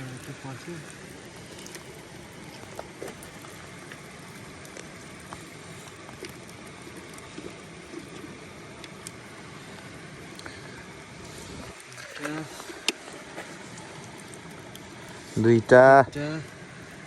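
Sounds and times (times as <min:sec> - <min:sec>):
small splashes: 0:00.0 - 0:15.4.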